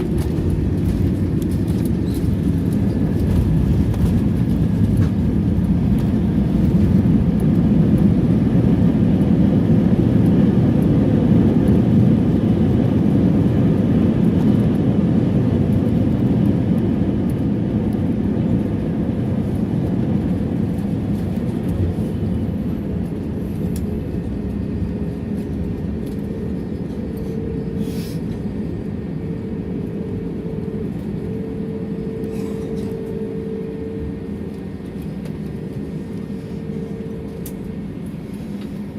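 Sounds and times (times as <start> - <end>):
deep rumble of engines and airflow: 0.0 - 38.9
mid-pitched hum: 0.0 - 38.9.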